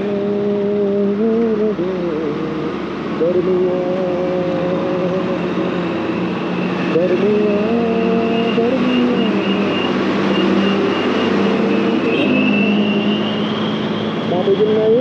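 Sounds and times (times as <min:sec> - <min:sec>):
motorcycle engine revving: 0:00.2 - 0:15.0.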